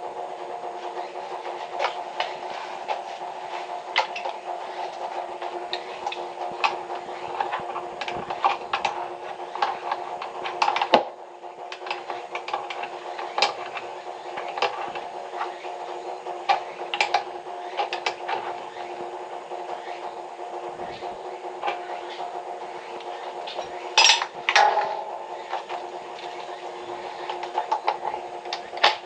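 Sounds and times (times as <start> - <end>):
steady mechanical hum: 0.0 - 29.0
irregular clicks and knocks: 0.4 - 29.0.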